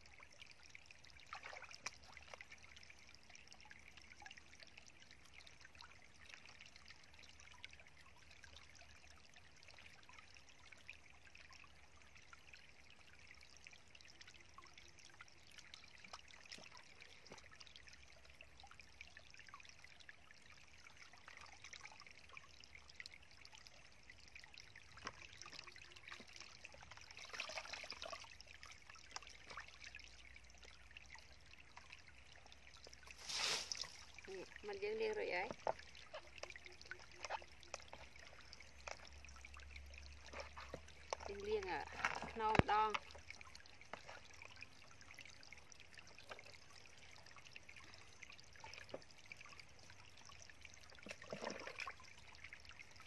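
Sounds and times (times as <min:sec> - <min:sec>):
small wet clicks: 0:00.0 - 0:19.0, 0:21.6 - 0:53.0
water splashing and dripping: 0:00.0 - 0:53.0
water trickling and sloshing: 0:00.0 - 0:53.0.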